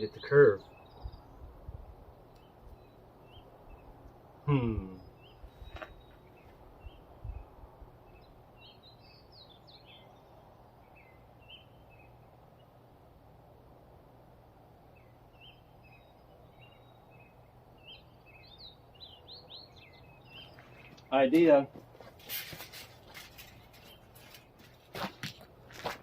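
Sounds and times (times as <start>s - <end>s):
small birds chirping: 0.0s - 13.2s, 14.7s - 25.5s.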